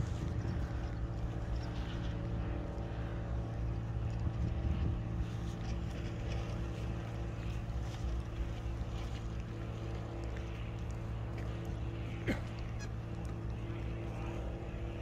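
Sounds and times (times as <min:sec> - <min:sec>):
low motor hum: 0:00.0 - 0:15.0
wind buffeting microphone: 0:00.0 - 0:15.0.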